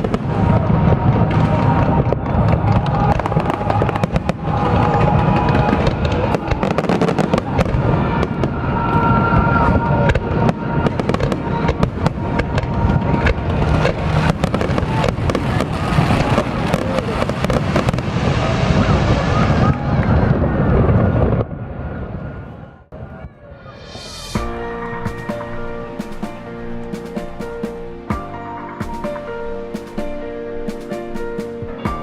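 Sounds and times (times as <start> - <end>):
music playing: 0.0 - 18.0, 23.6 - 32.0
fireworks bangs and crackles: 0.0 - 32.0.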